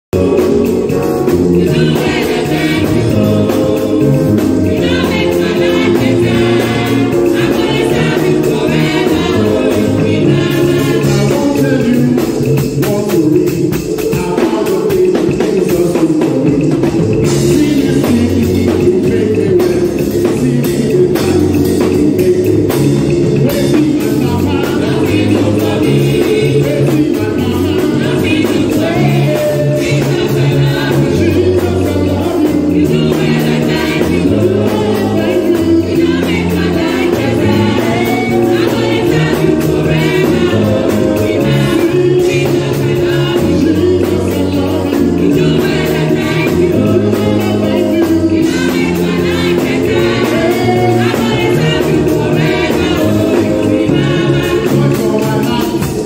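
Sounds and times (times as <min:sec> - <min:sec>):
drum kit playing: 0:00.0 - 0:56.0
group of voices singing: 0:00.0 - 0:56.0.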